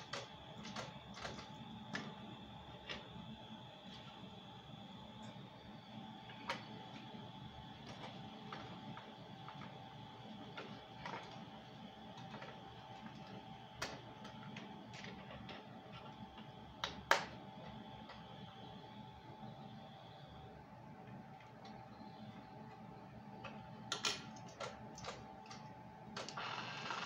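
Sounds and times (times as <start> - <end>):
faint steady whine: 0.0 - 27.0.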